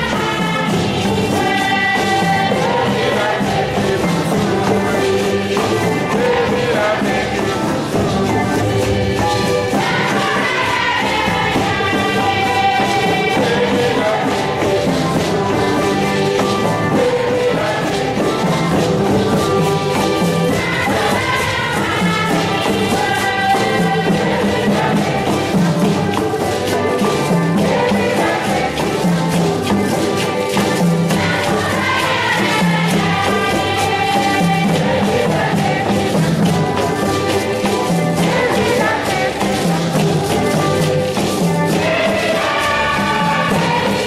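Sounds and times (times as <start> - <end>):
choir singing a hymn: 0.0 - 44.0
hand percussion beat: 0.0 - 44.0.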